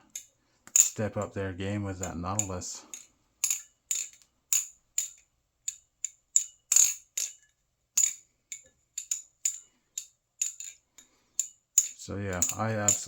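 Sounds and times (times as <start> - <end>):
balisong trainer clacking: 0.0 - 1.4, 2.0 - 13.0.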